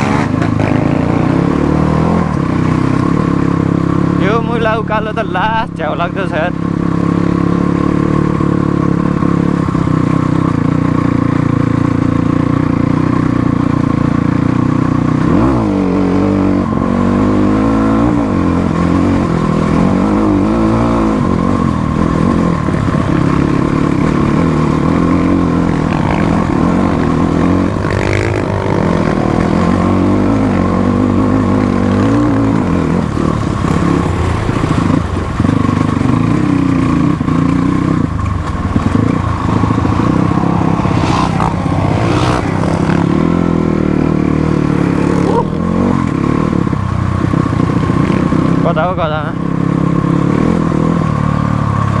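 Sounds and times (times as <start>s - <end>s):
motorcycle engine climbing uphill: 0.0s - 52.0s.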